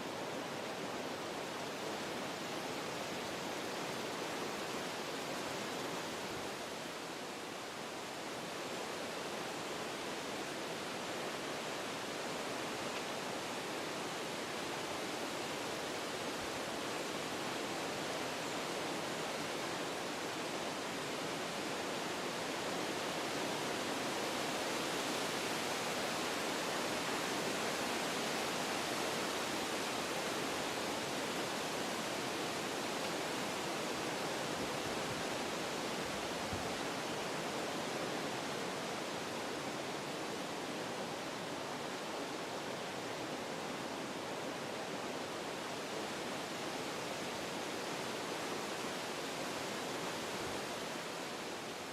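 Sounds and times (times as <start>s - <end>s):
wind through trees: 0.0s - 51.9s.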